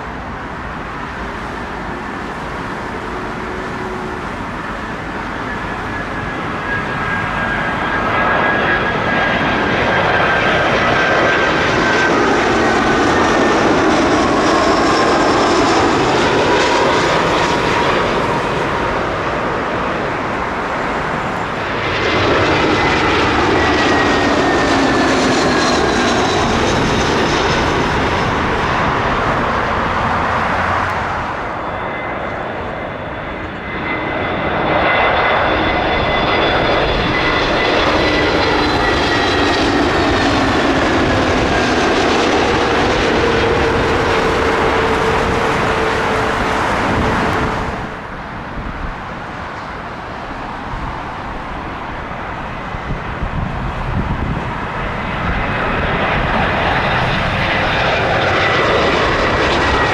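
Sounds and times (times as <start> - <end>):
jet engine whine: 0.0 - 59.9
jet engines roaring overhead: 0.0 - 59.9.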